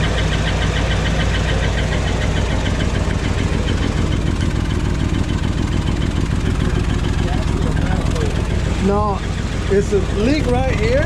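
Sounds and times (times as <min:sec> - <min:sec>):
ticking engine clatter: 0:00.0 - 0:11.0
truck engine idling: 0:00.0 - 0:11.0.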